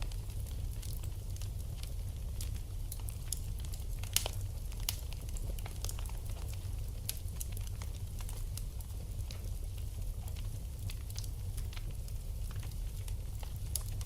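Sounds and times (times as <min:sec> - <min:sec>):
fire low rumble: 0:00.0 - 0:14.0
fire pops and snaps: 0:00.0 - 0:14.0.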